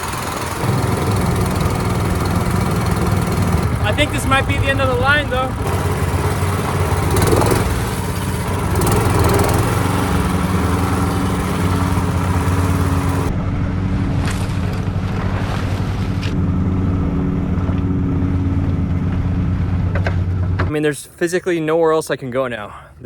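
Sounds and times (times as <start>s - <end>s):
boat motor running: 0.0s - 20.7s.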